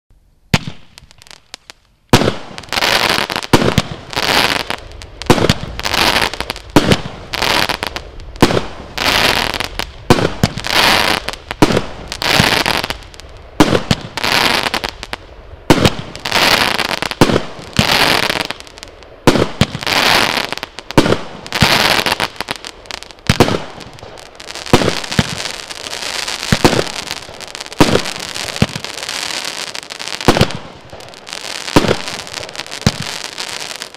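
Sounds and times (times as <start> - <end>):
firework shots with hissing trails: 0.5 - 33.9.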